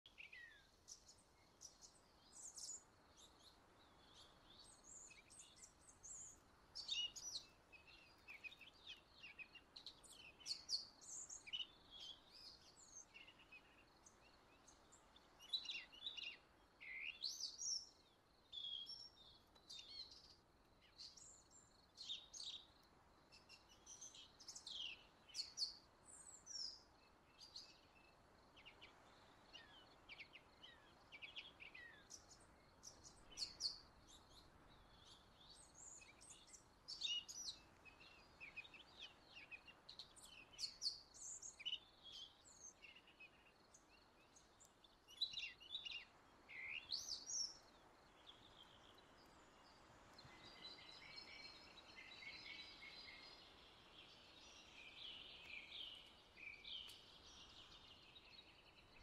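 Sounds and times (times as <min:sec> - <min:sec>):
faint background hiss: 0:00.1 - 0:59.0.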